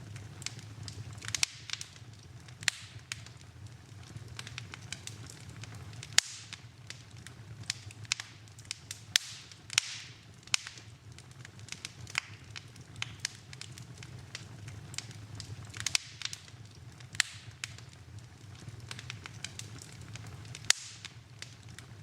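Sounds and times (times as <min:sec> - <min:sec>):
fire hissing: 0:00.0 - 0:22.0
low fire rumble: 0:00.0 - 0:22.0
wood fire crackling and popping: 0:00.0 - 0:22.0.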